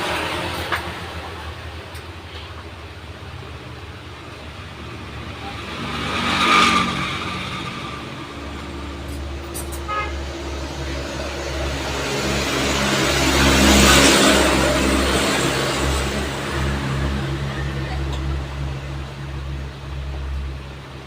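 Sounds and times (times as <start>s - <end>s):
engine droning low: 0.0s - 21.0s
vehicle passing: 3.5s - 20.8s.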